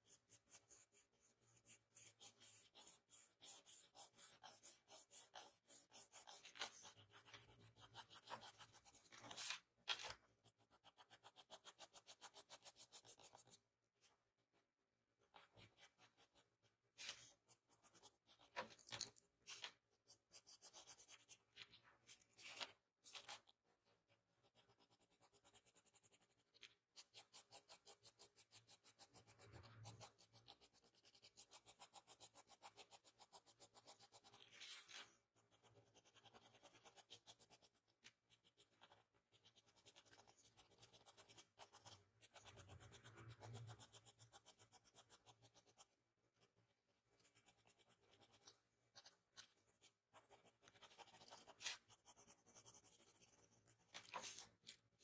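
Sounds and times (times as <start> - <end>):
pencil scratching on paper: 0.0 - 54.8.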